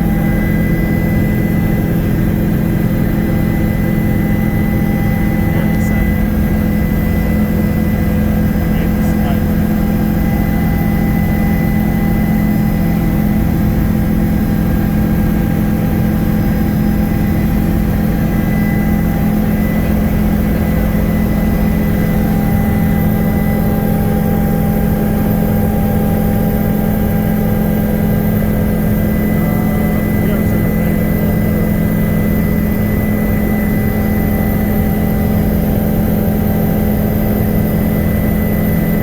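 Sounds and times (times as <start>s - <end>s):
helicopter engine and rotors: 0.0s - 39.0s.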